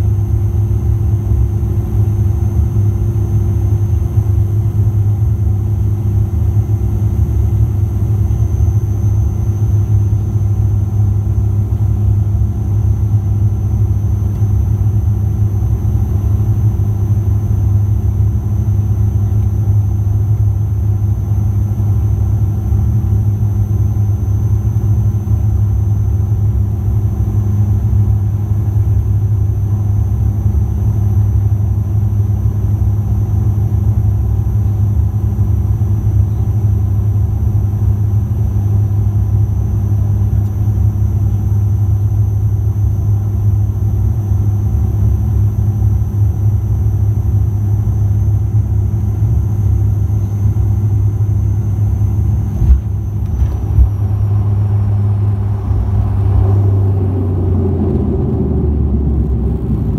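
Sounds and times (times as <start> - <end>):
airplane cabin turboprop drone: 0.0 - 59.9
steady engine whines: 0.0 - 59.9.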